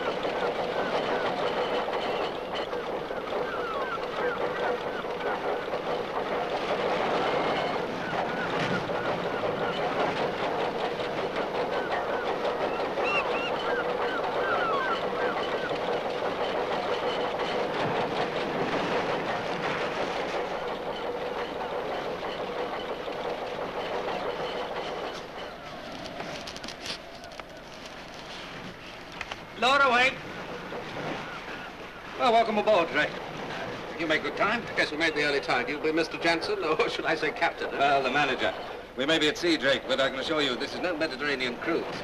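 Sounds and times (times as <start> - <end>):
gulls calling: 0.0 - 28.1, 29.0 - 42.0.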